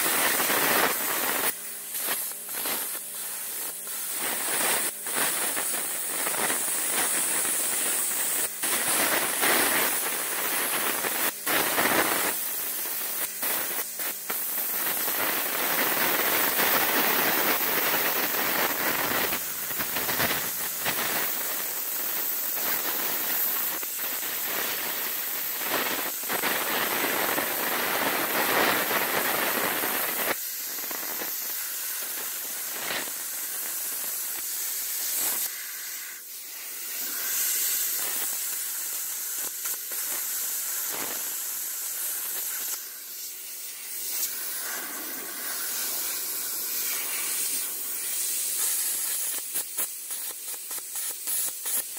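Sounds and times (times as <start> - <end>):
plasma cutter torch hissing: 0.0 - 51.9.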